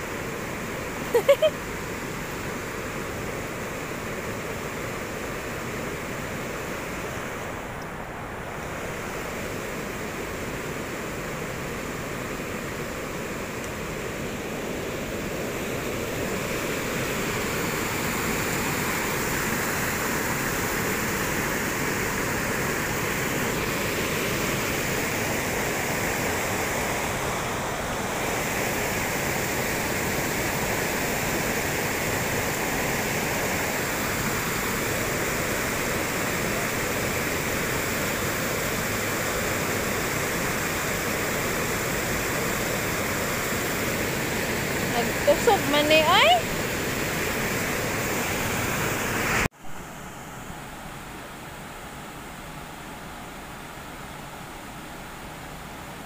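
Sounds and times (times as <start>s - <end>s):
floodwater rushing over road: 3.7s - 49.5s.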